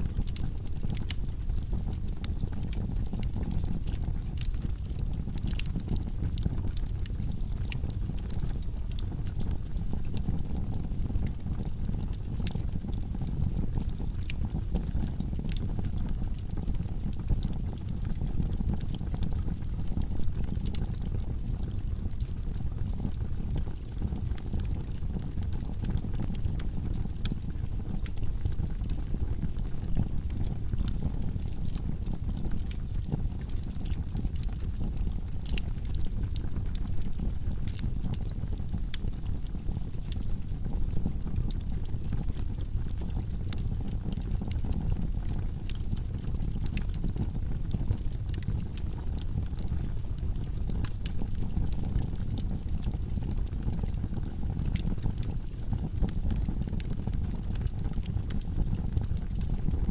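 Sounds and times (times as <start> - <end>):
fire rumbling with crackles and pops: 0.0 - 59.9.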